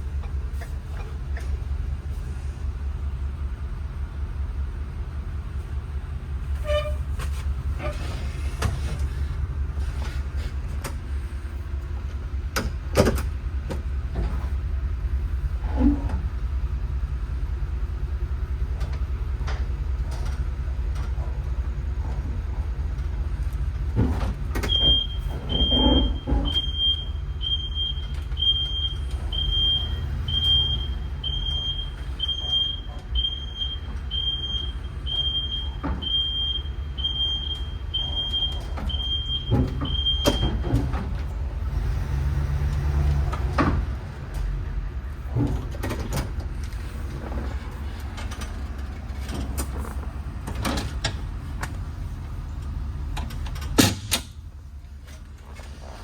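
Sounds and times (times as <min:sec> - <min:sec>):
van engine rumbling: 0:00.0 - 0:56.0.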